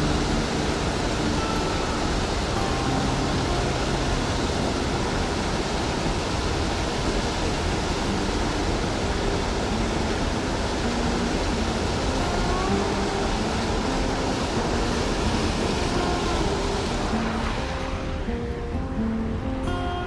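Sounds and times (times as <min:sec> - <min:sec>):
water rushing over spillway: 0:00.0 - 0:19.9.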